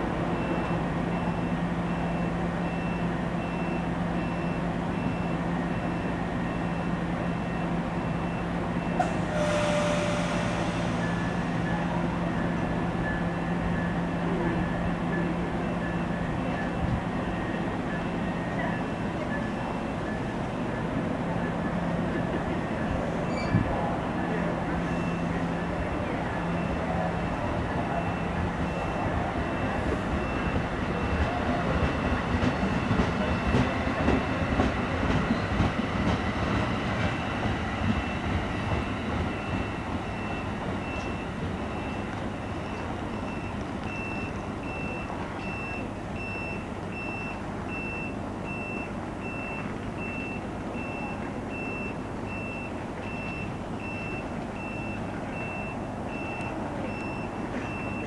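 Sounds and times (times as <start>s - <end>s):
train wheels rumbling and clicking: 8.1s - 58.0s.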